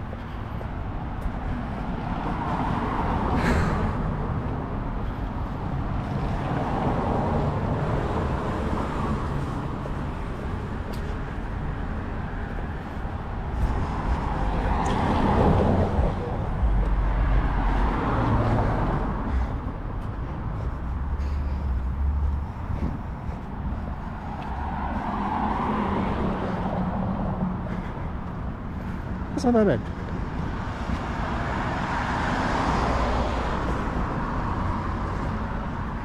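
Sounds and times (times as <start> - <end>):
cars passing on road: 0.0 - 36.0.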